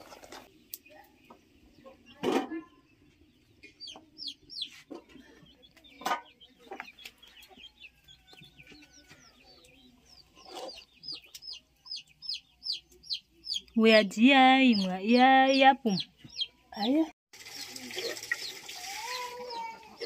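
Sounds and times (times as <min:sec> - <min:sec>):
chickens clucking: 0:00.1 - 0:20.0.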